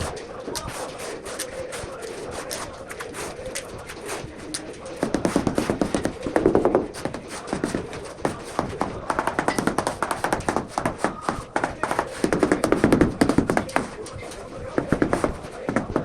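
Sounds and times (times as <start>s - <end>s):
rapid repeated tapping: 0.0s - 16.0s.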